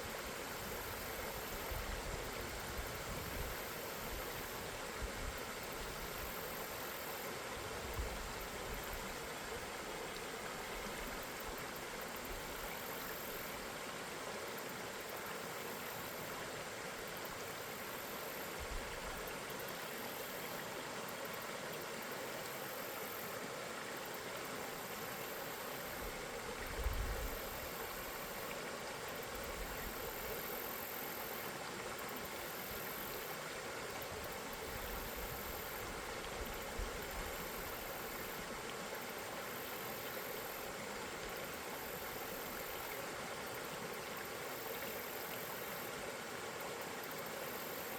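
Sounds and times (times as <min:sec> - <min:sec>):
river water flowing: 0:00.0 - 0:47.9.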